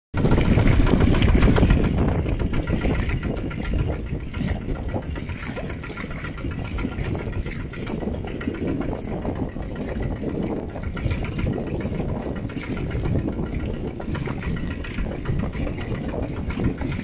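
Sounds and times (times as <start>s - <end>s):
tractor engine chugging: 0.2s - 17.0s.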